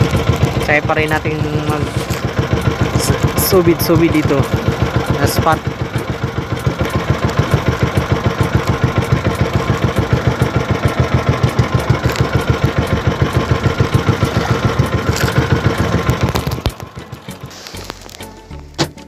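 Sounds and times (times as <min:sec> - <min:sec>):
boat engine puttering: 0:00.0 - 0:19.0.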